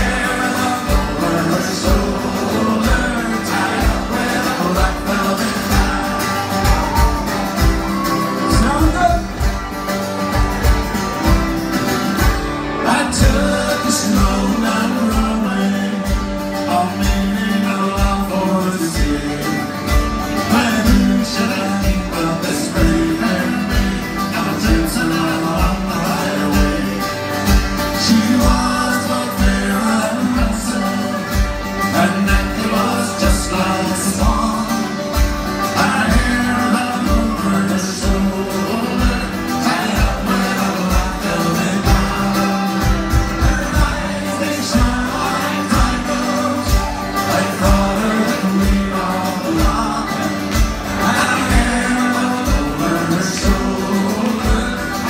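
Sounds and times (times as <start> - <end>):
person singing: 0.0 - 9.4, 12.8 - 55.0
folk band playing: 0.0 - 55.0
strummed guitars and banjos: 0.0 - 55.0.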